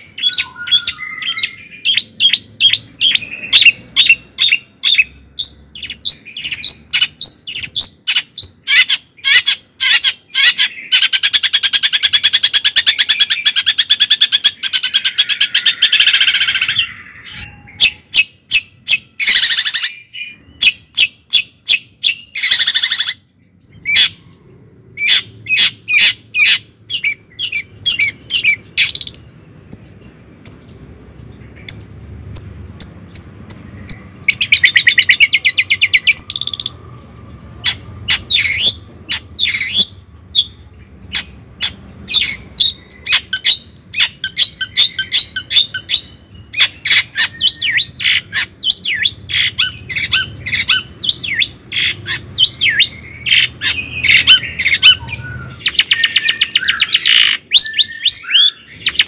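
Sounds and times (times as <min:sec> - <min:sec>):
bird chirping: 0:00.0 - 0:59.0
bird trill: 0:00.0 - 0:59.0
harsh bird calls: 0:00.0 - 0:59.0.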